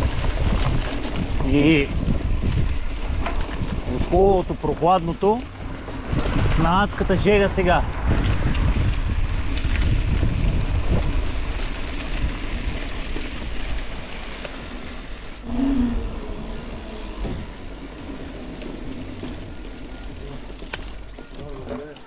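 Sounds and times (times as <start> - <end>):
bike rolling noise: 0.0 - 22.0
wind buffeting microphone: 0.0 - 22.0.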